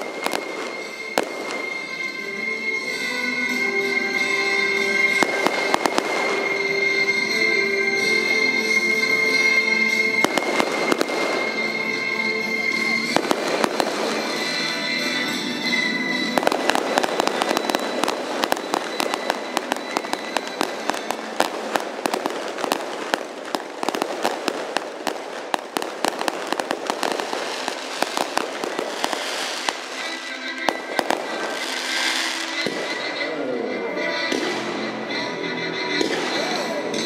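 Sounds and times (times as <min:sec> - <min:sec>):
fireworks crackling and popping: 0:00.0 - 0:02.4, 0:04.2 - 0:33.5, 0:34.3 - 0:34.8, 0:36.0 - 0:37.0
music: 0:00.0 - 0:37.0.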